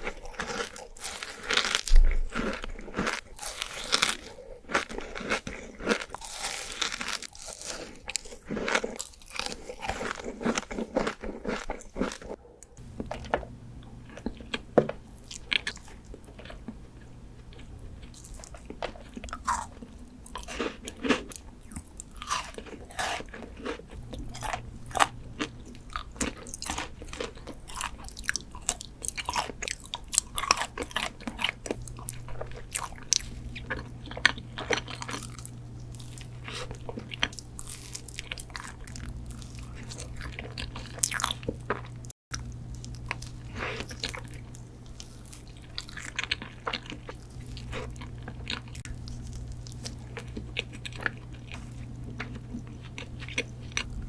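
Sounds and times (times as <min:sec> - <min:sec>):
crunchy bites and chewing: 0:00.0 - 0:13.4, 0:14.0 - 0:54.0
low steady hum: 0:00.0 - 0:54.0.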